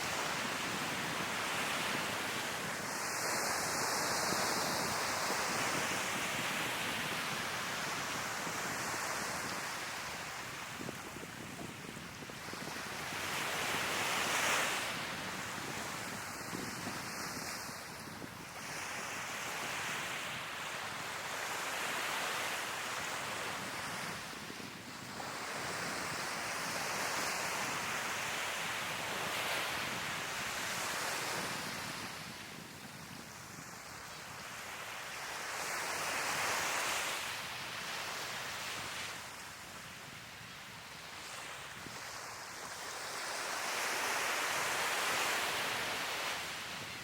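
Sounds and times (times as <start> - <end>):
sea waves breaking on shore: 0.0 - 47.0.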